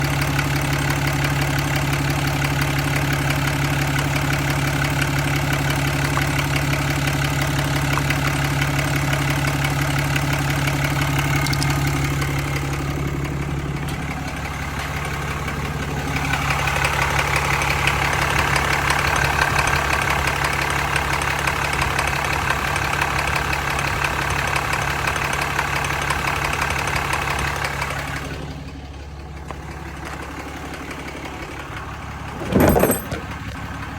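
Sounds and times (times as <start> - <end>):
diesel engine idling: 0.0 - 33.9
engine ticking: 0.0 - 33.9.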